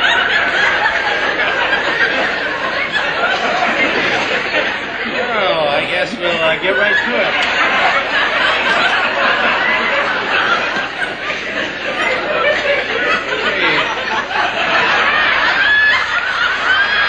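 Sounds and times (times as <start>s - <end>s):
audience laughing: 0.0s - 17.0s.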